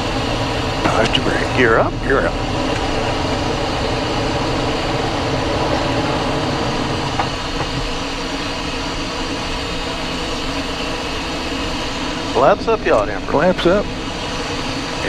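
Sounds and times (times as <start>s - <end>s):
air rushing over airframe: 0.0s - 15.0s
jet engines at takeoff power: 0.0s - 15.0s.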